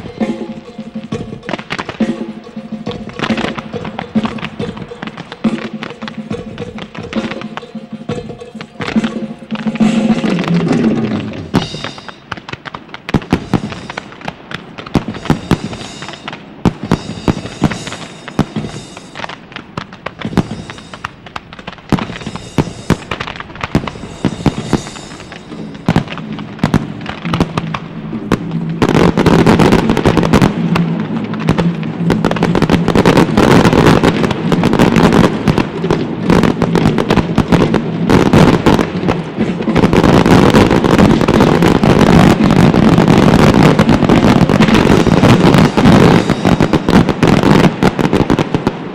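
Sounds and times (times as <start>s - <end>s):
music: 0.0s - 12.5s, 13.1s - 19.5s, 20.2s - 21.2s, 21.9s - 48.2s
fireworks bursting: 0.0s - 48.9s
fireworks hissing: 0.0s - 48.9s.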